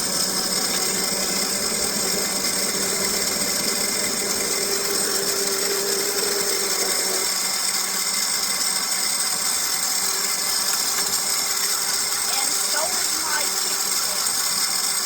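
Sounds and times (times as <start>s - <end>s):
electric bike motor whining: 0.0s - 15.0s.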